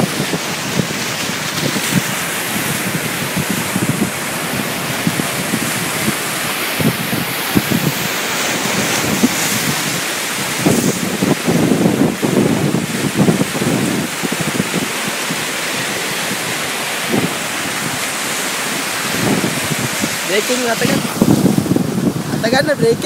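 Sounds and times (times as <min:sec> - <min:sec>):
sea washing: 0:00.0 - 0:23.0
wind buffeting microphone: 0:00.0 - 0:23.0.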